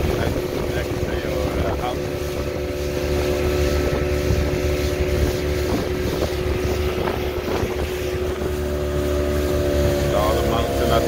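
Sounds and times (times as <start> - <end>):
motorboat engine droning: 0.0 - 11.0
wind buffeting microphone: 0.0 - 11.0.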